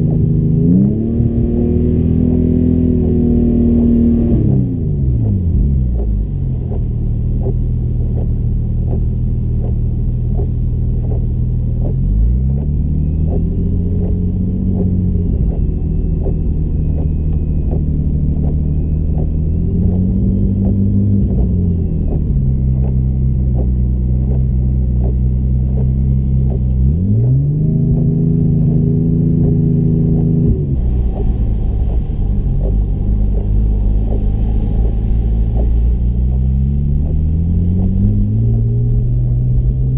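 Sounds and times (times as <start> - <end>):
car engine revving: 0.0 - 39.9
regular ticking: 0.0 - 39.9.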